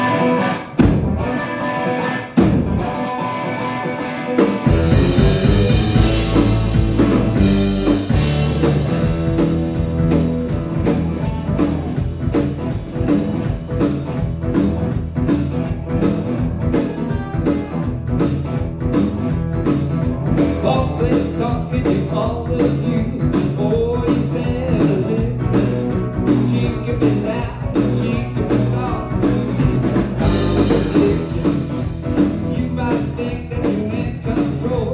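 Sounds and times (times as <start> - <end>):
electric guitar lead: 0.0 - 34.5
bass guitar: 0.0 - 34.9
drums playing steady beat: 0.8 - 1.5, 2.4 - 3.2, 4.0 - 34.9.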